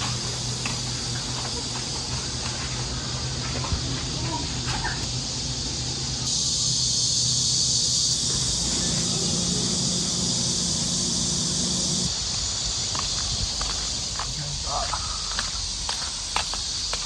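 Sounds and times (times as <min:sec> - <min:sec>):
high-pitched insect drone: 0:00.0 - 0:17.0
low hum: 0:00.0 - 0:17.0.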